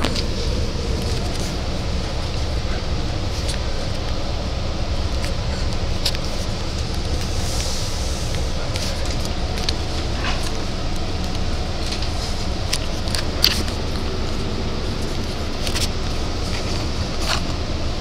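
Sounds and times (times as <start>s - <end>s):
train coach rumbling on track: 0.0s - 18.0s.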